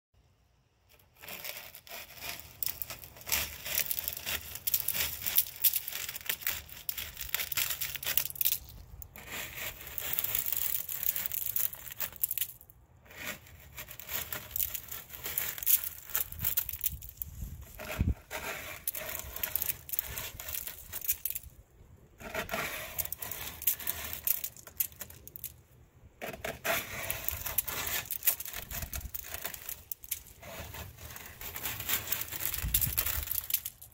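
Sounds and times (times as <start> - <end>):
scraper crunching mussel shells: 0.9 - 21.6, 22.2 - 25.6, 26.2 - 33.9.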